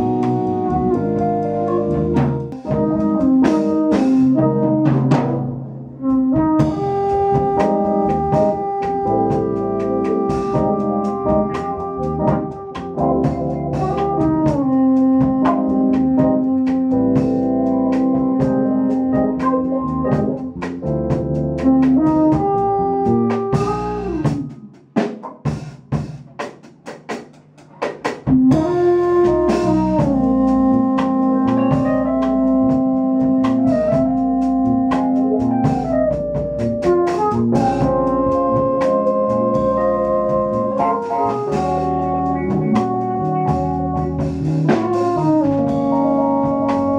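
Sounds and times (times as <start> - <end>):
keyboard chords: 0.0 - 24.8, 28.3 - 46.9
drum kit: 0.0 - 46.9
jazz-funk band playing: 0.0 - 46.9.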